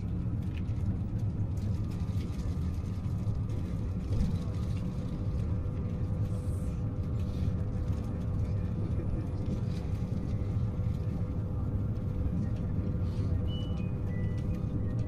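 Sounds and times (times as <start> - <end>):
faint hum: 0.0 - 15.0
train wheels rumbling on track: 0.0 - 15.0.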